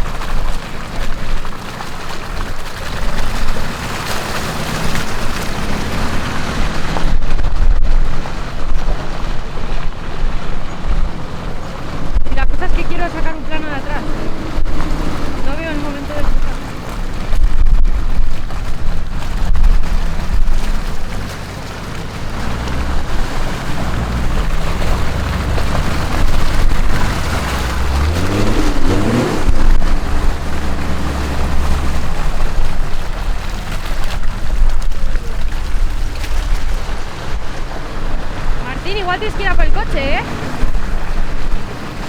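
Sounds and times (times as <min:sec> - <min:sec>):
engine running under load: 0:00.0 - 0:42.0
steady rushing noise: 0:02.2 - 0:42.0.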